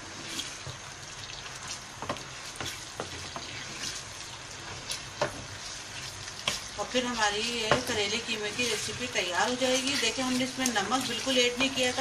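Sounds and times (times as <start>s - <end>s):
minced meat sizzling in a pan: 0.0s - 12.0s
spatula scraping a pan: 1.4s - 12.0s.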